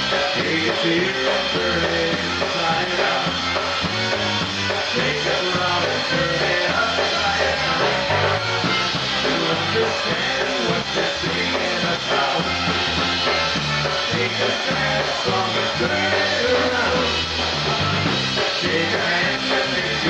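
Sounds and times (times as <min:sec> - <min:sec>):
bouncing bass line: 0:00.0 - 0:20.0
polka band playing: 0:00.0 - 0:20.0.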